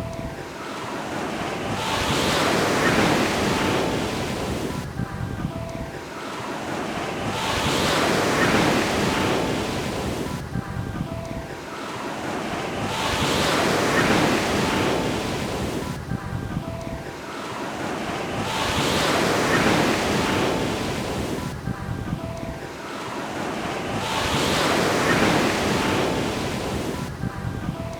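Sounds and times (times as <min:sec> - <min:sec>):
ocean surf breaking on a beach: 0:00.0 - 0:27.9.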